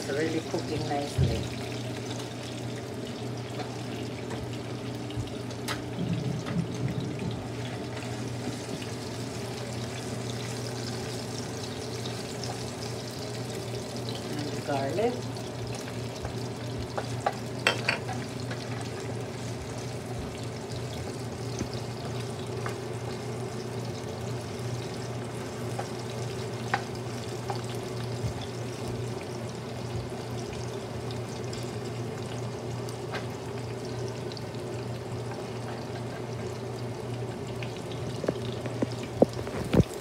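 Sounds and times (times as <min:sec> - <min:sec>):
low steady hum: 0:00.0 - 0:40.0
onions sizzling in oil: 0:00.0 - 0:40.0.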